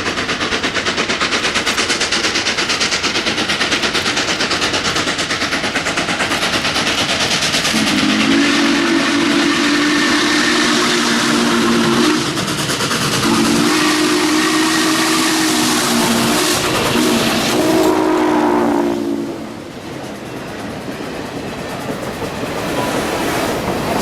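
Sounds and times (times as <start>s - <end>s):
steam locomotive chuffing: 0.0s - 24.0s.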